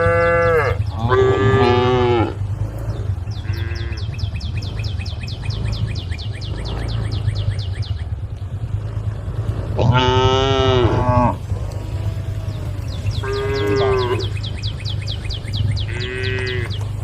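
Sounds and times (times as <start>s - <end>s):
cows mooing: 0.0s - 7.6s, 8.6s - 17.0s
steady low rumble: 0.0s - 17.0s.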